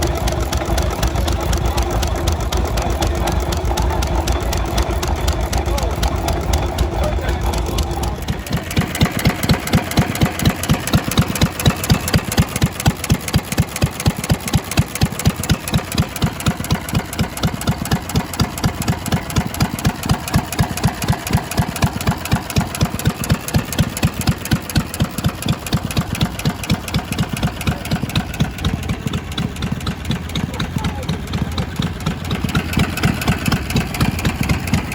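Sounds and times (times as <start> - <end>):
old engine running slowly: 0.0 - 34.9.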